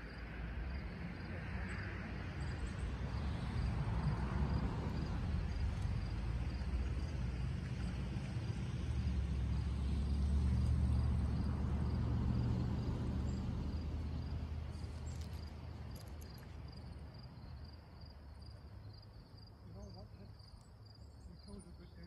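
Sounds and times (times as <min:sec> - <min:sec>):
insect chirping: 0:00.0 - 0:22.0
distant engine rumble: 0:00.9 - 0:22.0.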